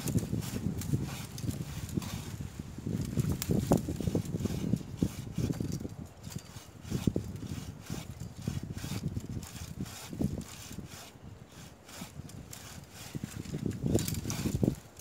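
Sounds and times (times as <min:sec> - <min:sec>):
bow saw scraping through wood: 0:00.0 - 0:15.0.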